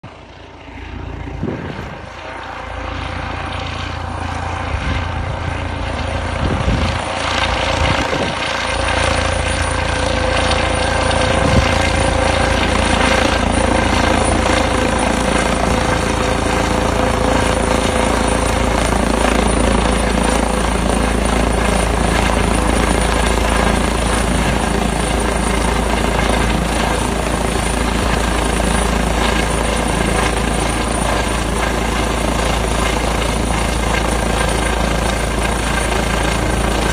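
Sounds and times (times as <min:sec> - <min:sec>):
helicopter rotor with high whine: 0:00.0 - 0:36.9.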